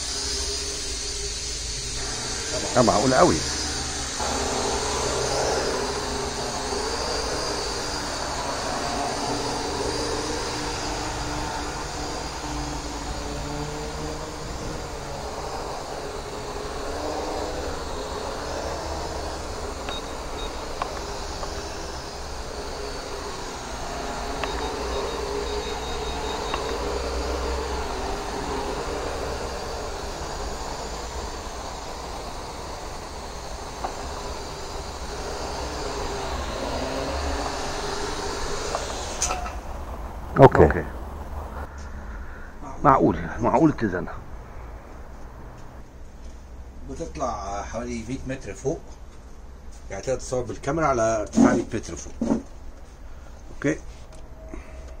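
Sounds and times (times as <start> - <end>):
quadcopter motors buzzing: 0.0 - 55.0.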